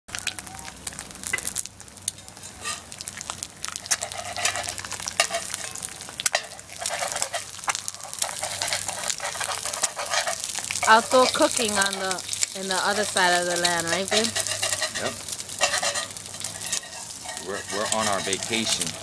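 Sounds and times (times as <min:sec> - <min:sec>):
eggs sizzling in a skillet: 0:00.1 - 0:19.0
wood fire crackling pops: 0:00.1 - 0:19.0
spatula moving in pan: 0:02.2 - 0:19.0.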